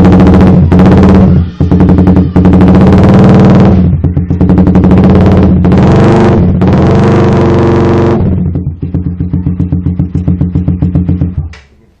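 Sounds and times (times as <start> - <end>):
motorcycle engine revving and idling: 0.0 - 11.5.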